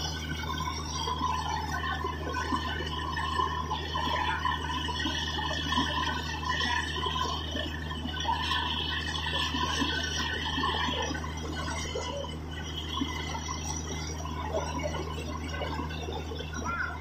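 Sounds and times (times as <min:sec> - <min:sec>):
drilling rig humming: 0:00.0 - 0:17.0.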